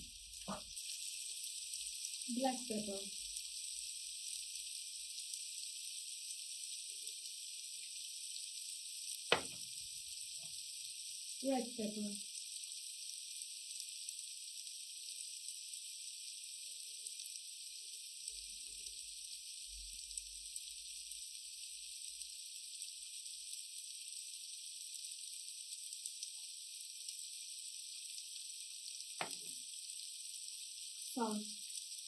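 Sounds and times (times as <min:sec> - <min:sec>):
oil sizzling in frying pan: 0:00.0 - 0:32.0.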